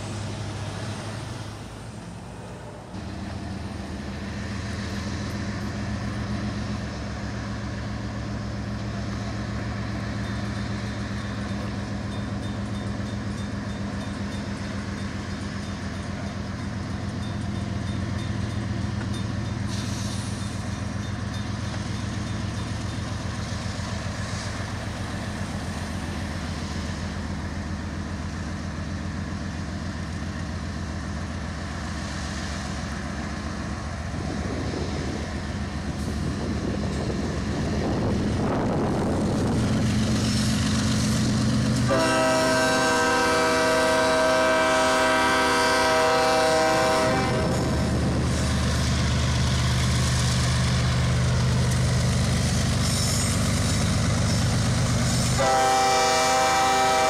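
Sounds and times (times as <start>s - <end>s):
locomotive diesel engines droning: 0.0s - 57.0s.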